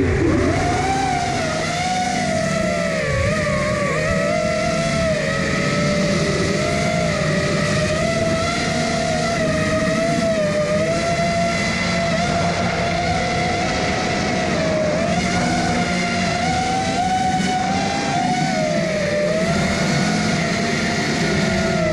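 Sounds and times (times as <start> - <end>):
drone propellers whining: 0.0 - 21.9.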